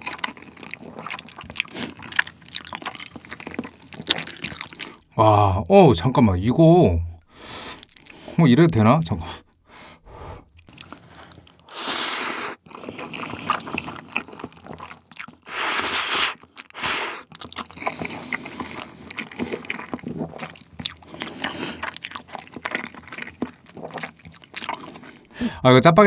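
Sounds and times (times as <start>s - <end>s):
noodle slurping: 0.0s - 5.1s, 7.3s - 8.4s, 10.0s - 25.6s
wet chewing: 0.0s - 5.2s, 7.2s - 25.4s.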